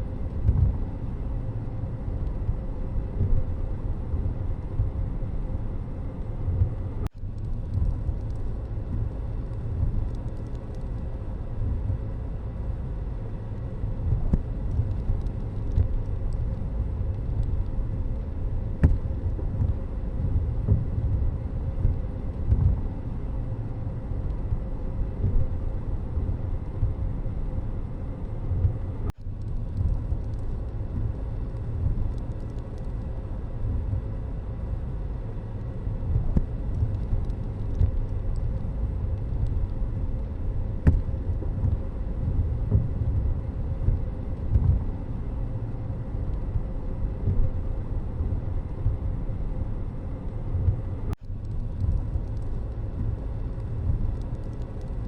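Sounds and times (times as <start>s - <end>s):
road vehicle low rumble: 0.0s - 55.0s.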